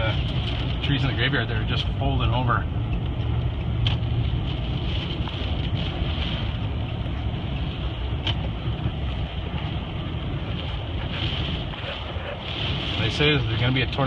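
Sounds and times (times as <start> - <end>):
car driving: 0.0 - 14.0
storm wind: 0.0 - 14.0.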